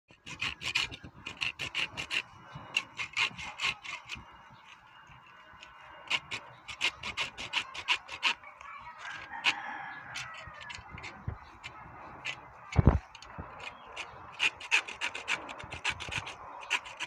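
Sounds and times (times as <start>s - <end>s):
hacksaw rasping: 0.1s - 17.0s.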